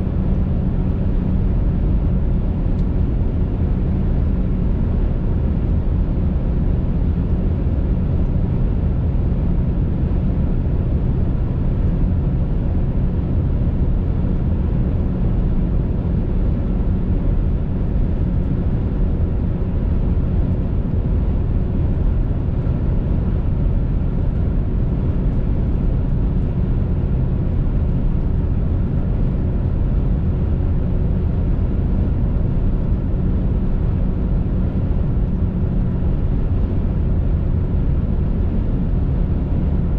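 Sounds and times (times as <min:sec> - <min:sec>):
car driving at highway speed: 0:00.0 - 0:39.9
faint steady hum: 0:00.0 - 0:39.9.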